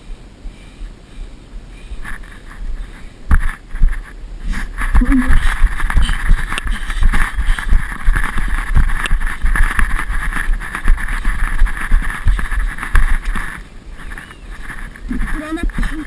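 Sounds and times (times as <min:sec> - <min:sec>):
strong wind buffeting microphone: 0:01.3 - 0:16.0.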